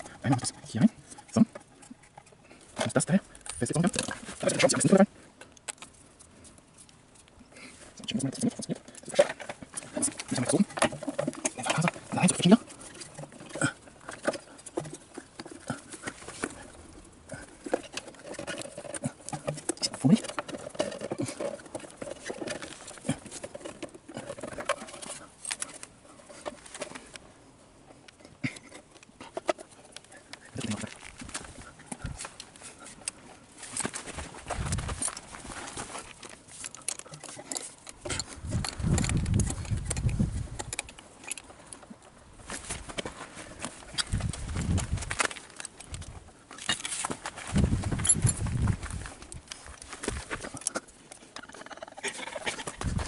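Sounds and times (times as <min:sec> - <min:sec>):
clicks of handling metal parts: 0:08.1 - 0:27.2, 0:28.0 - 0:53.0.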